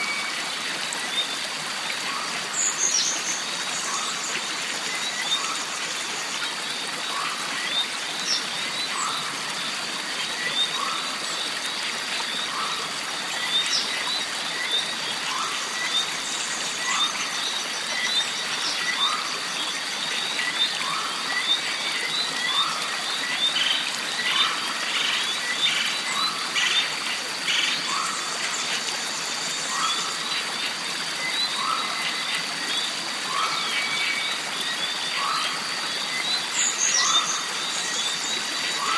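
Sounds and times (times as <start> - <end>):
stream water running: 0.0 - 38.9.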